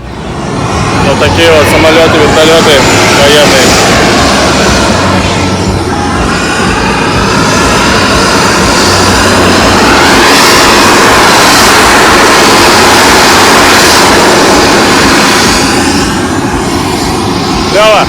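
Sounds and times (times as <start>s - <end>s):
aircraft engine roar: 0.0s - 18.0s.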